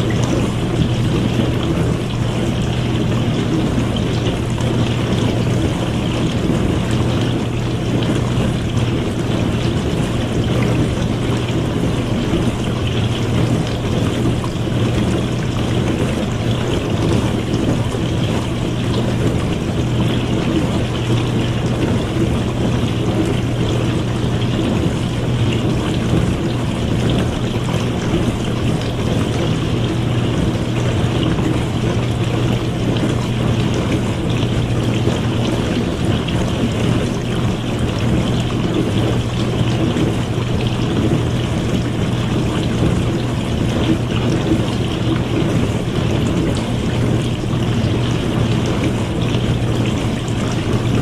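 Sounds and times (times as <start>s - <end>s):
dishwasher pump motor hum: 0.0s - 51.0s
water spraying in dishwasher: 0.0s - 51.0s.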